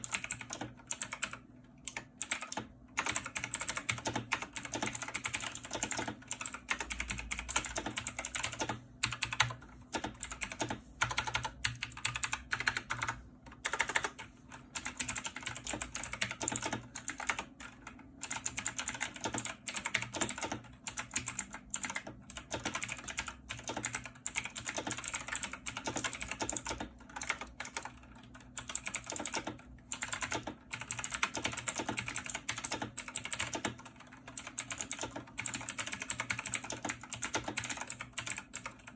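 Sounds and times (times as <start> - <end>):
clicky keyboard typing: 0.0 - 38.9.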